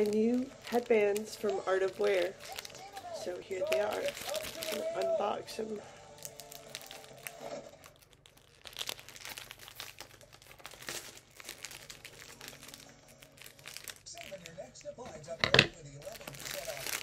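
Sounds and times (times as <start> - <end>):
plastic mailer bag crinkling: 0.0 - 5.4, 6.1 - 17.0.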